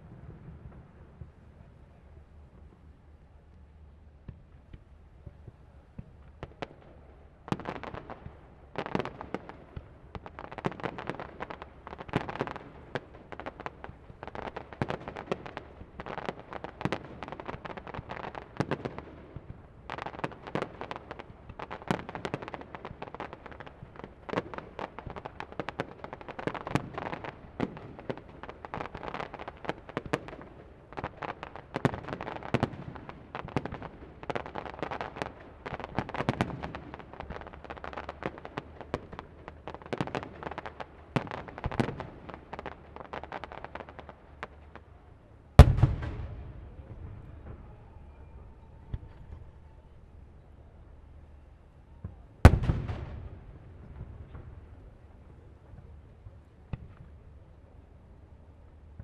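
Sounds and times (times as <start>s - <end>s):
fireworks bursting and crackling: 4.2s - 57.8s.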